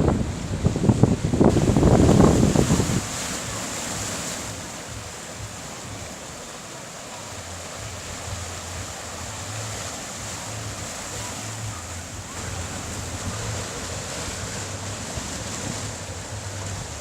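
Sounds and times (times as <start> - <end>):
wind buffeting microphone: 0.0 - 6.5, 7.3 - 17.0
sea waves washing on shore: 0.0 - 17.0.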